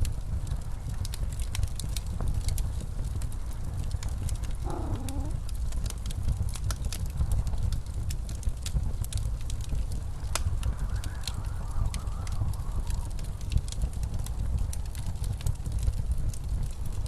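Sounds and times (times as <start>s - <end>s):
blizzard wind rumbling: 0.0s - 17.0s
wood fire crackling and popping: 0.0s - 17.0s.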